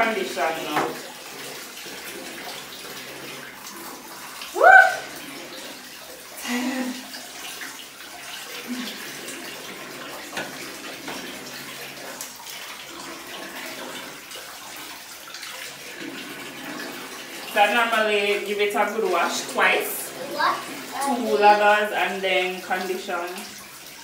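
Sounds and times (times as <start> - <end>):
bathwater sloshing and splashing: 0.0 - 24.0.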